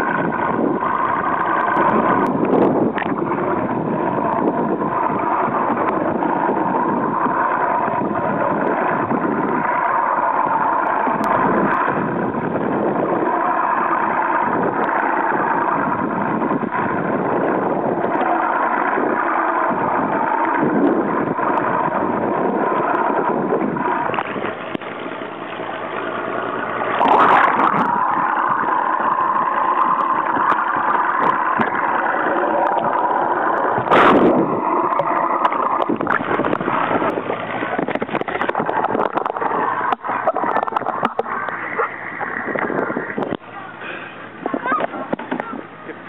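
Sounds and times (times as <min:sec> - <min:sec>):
boat engine humming: 0:00.0 - 0:46.0
loud noisy bursts: 0:00.0 - 0:46.0.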